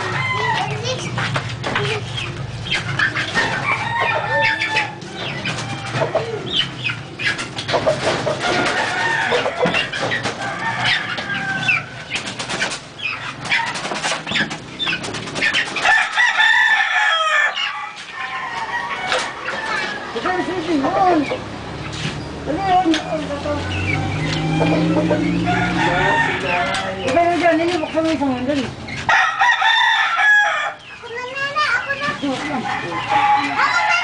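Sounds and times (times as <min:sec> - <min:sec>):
chickens clucking and calling: 0:00.0 - 0:34.0.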